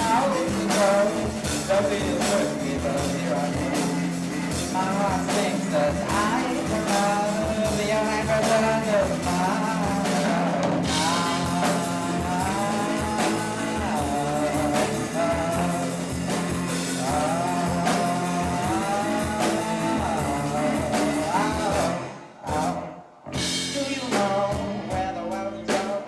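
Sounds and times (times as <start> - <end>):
drums: 0.0 - 26.0
rock band playing live: 0.0 - 26.0.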